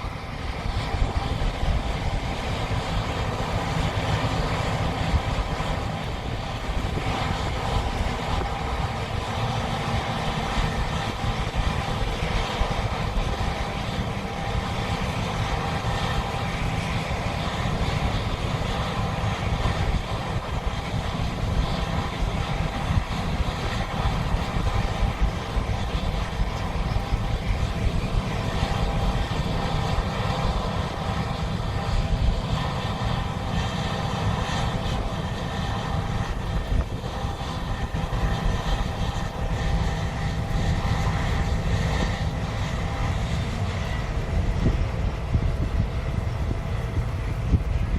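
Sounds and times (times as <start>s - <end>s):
combine harvesters droning: 0.0s - 47.9s.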